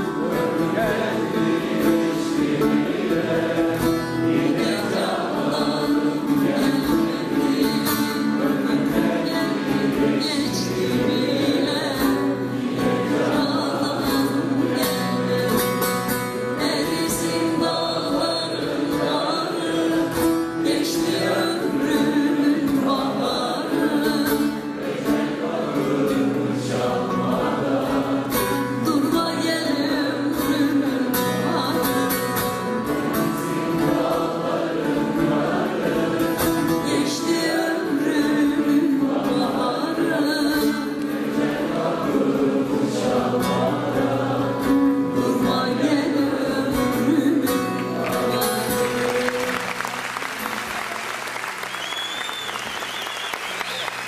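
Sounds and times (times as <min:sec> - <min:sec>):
plucked lute accompaniment: 0:00.0 - 0:50.1
several voices singing folk song: 0:00.0 - 0:50.6.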